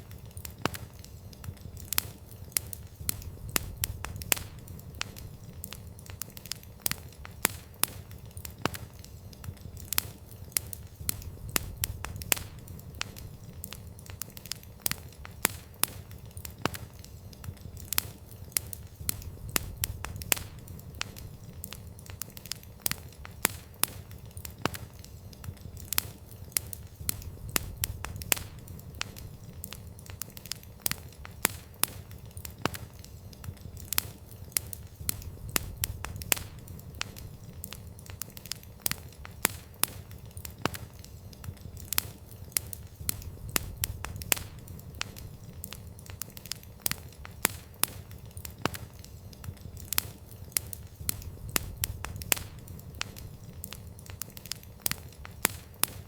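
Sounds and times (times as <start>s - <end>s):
campfire pops and crackles: 0.0s - 56.0s
low rumble of flames: 0.0s - 56.0s.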